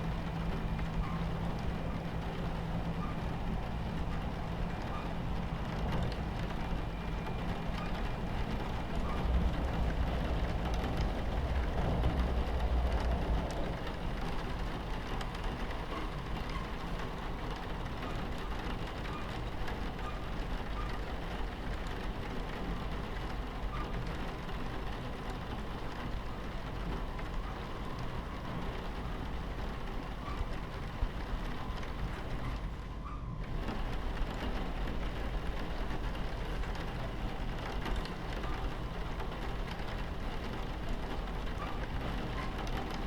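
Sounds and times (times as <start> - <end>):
rain pattering on window: 0.0 - 43.0
train rumbling on tracks: 0.0 - 43.0.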